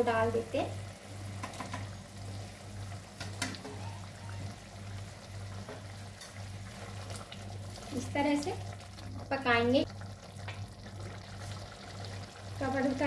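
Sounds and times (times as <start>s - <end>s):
gravy boiling: 0.0s - 13.0s.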